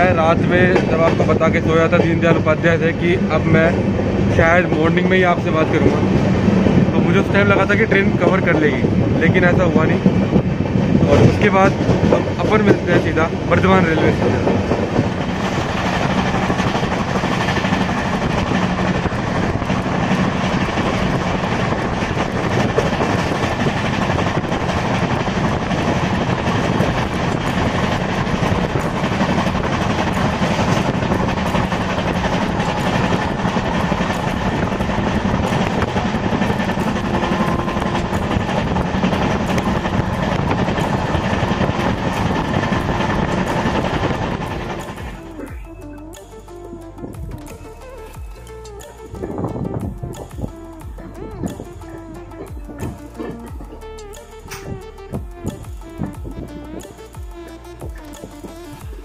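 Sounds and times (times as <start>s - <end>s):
train coach rumbling: 0.0s - 59.0s.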